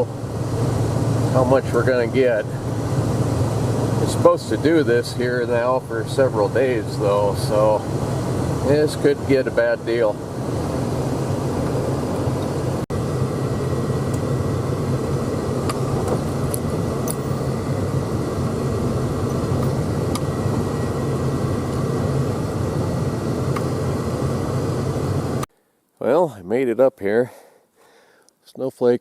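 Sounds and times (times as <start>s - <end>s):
truck engine and road noise: 0.0s - 25.5s.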